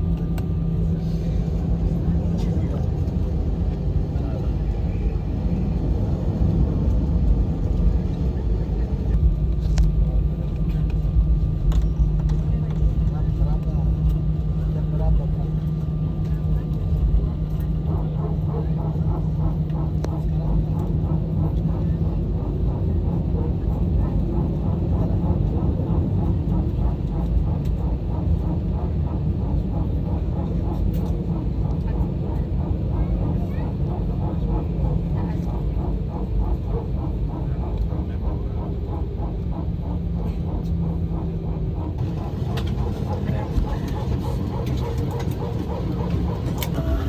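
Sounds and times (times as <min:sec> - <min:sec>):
airplane cabin engine rumble: 0:00.0 - 0:47.0
steady hum: 0:00.0 - 0:47.0.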